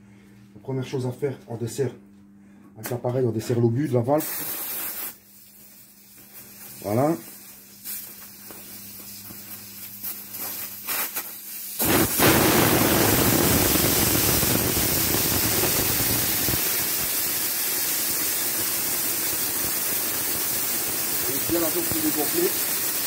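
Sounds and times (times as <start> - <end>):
air hissing from tyre: 4.2 - 23.0.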